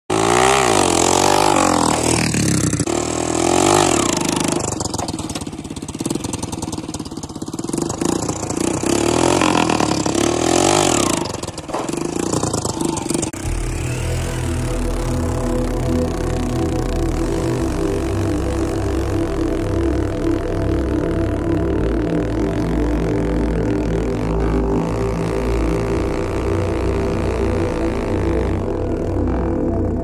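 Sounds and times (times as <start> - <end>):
small motorcycle engine revving: 0.1 - 30.0.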